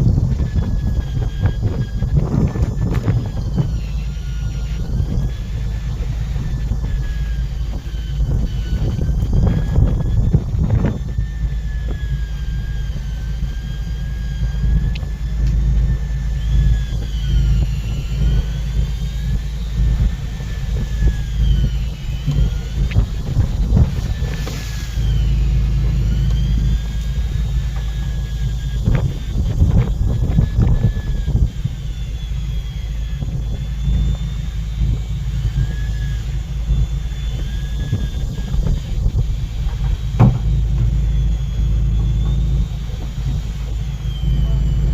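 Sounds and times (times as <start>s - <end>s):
boat engine rumbling: 0.0s - 44.9s
thin mechanical whine: 0.0s - 44.9s.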